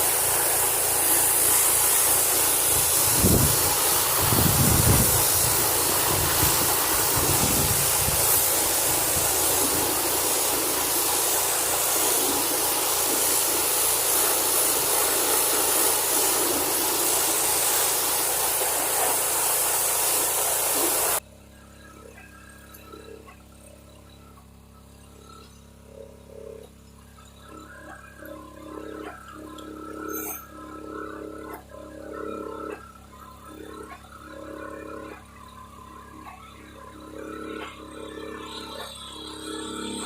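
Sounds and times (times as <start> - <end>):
high-pressure water spray hissing: 0.0 - 21.2, 27.0 - 40.0
pressure washer engine running: 0.0 - 40.0.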